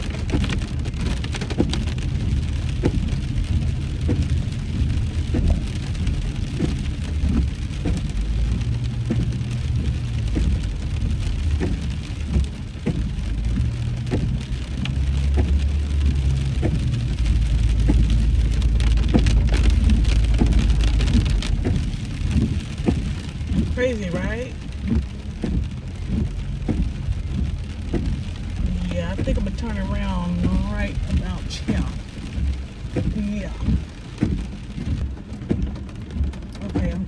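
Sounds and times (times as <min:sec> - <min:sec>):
heavy rain on car roof: 0:00.0 - 0:37.0
moving car rumble: 0:00.0 - 0:37.0.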